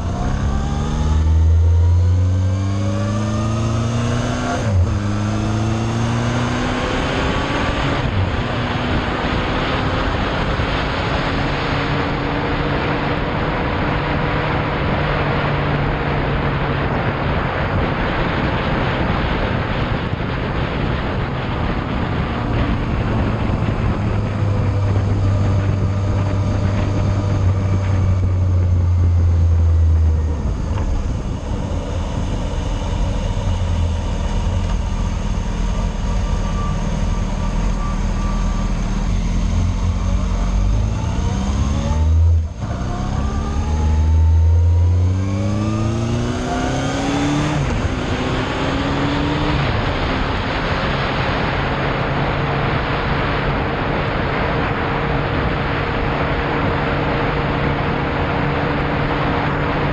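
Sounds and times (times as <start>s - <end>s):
motorcycle engine accelerating: 0.0s - 59.9s
wind rush: 0.0s - 59.9s.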